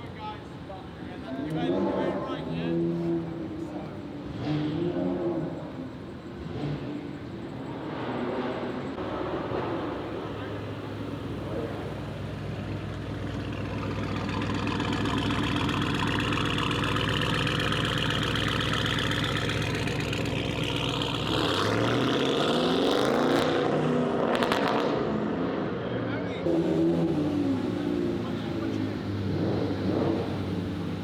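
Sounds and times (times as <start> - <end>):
car engine revving: 1.4 - 31.0.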